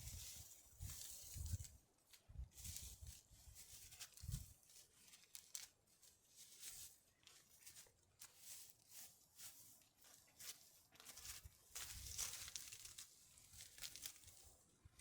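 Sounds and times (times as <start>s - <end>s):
quiet rustles: 0.0s - 15.0s.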